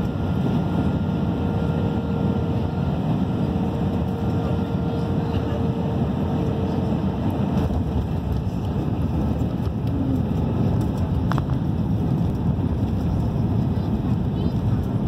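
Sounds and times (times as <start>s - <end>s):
airplane cabin roar on runway: 0.0s - 15.0s.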